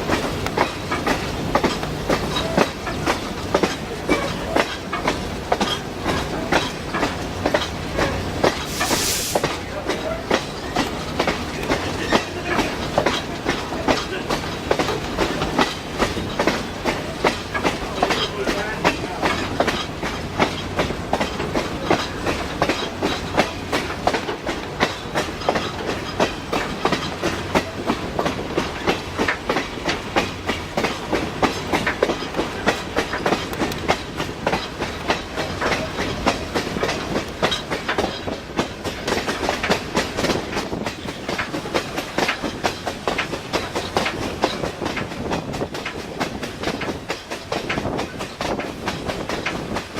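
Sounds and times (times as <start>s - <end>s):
train wheels clattering over rails: 0.0s - 49.9s.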